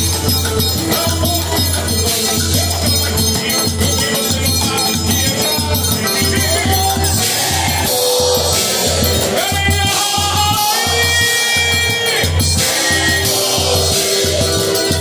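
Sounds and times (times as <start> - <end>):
bass drum beat: 0.0 - 15.0
live band through pa: 0.0 - 15.0.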